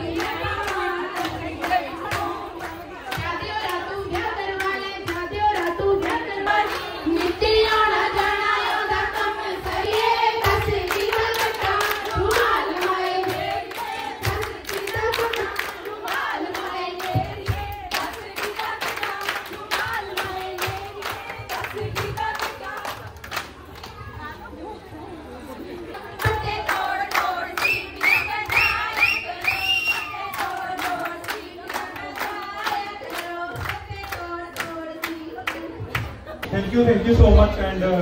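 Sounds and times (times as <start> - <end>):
rhythmic hand clapping: 0.0 - 24.0, 26.1 - 36.5
women singing together: 0.0 - 24.3, 25.8 - 36.5.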